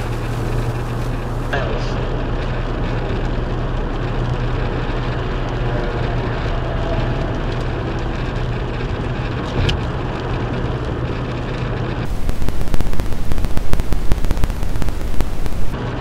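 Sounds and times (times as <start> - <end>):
car road and engine noise: 0.0 - 16.0
low hum: 0.0 - 16.0.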